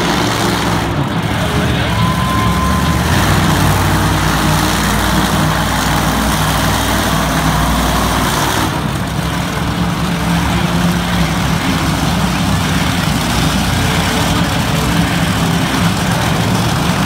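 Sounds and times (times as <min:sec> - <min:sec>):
monster truck engines rumbling: 0:00.0 - 0:17.0.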